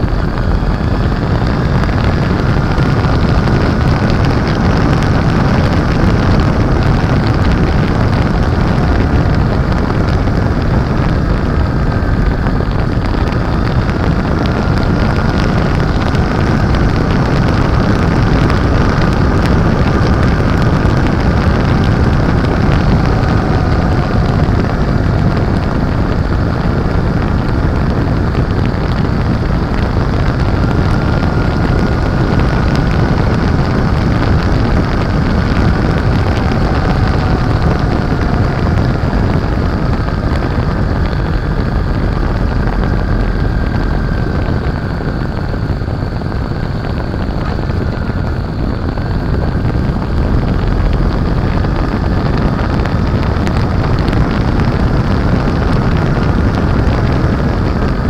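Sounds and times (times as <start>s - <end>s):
heavy wind rumble on microphone: 0.0s - 58.0s
motorcycle engine running: 0.0s - 58.0s.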